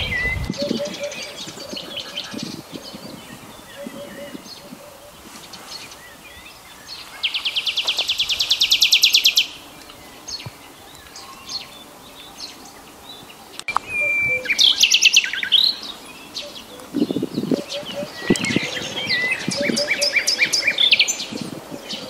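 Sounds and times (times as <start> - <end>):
songbirds trilling and chirping: 0.0 - 22.0.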